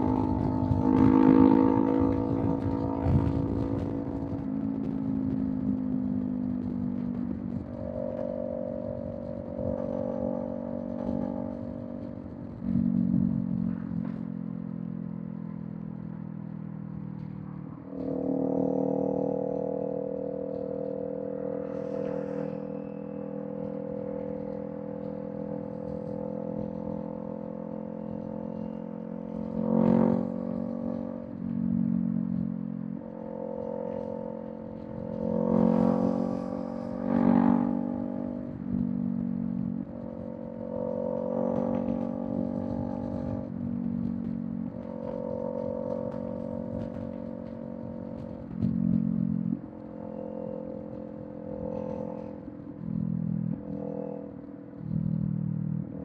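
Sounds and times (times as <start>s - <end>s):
motorcycle engine with throttle surges: 0.0s - 56.0s.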